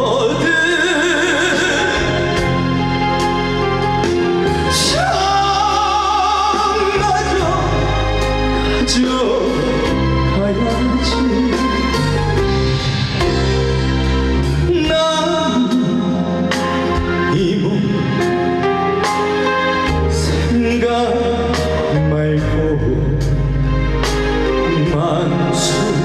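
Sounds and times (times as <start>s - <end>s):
man singing: 0.0s - 2.8s, 4.4s - 12.4s, 14.3s - 19.0s, 19.8s - 23.7s, 24.4s - 26.0s
band playing bass and drums: 0.0s - 26.0s.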